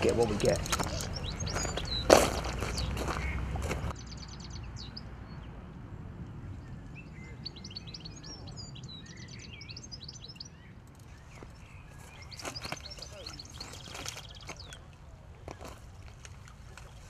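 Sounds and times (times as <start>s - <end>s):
small songbirds chirping: 0.0s - 5.6s, 6.3s - 17.0s.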